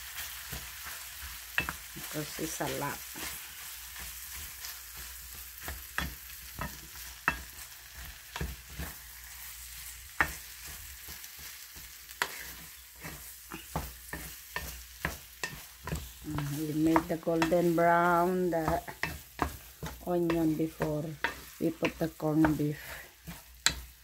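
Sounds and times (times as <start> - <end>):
frying sizzle: 0.0 - 24.0
wooden spatula scraping skillet: 0.2 - 24.0.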